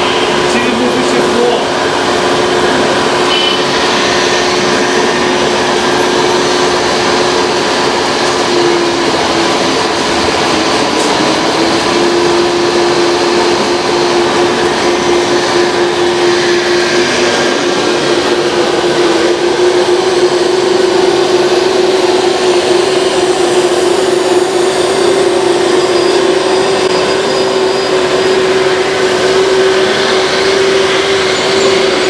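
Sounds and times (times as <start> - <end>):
small electric motor whining: 0.0 - 32.0.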